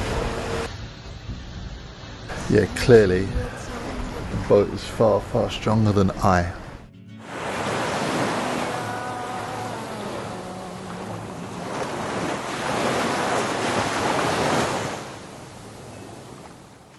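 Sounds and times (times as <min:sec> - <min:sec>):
rushing waves: 0:00.0 - 0:00.9, 0:02.1 - 0:16.9
wind: 0:00.0 - 0:16.9.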